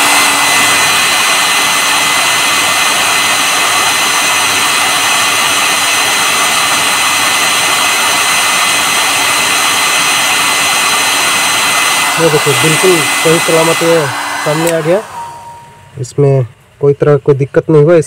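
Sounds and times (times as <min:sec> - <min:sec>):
hair dryer blowing air: 0:00.0 - 0:16.0.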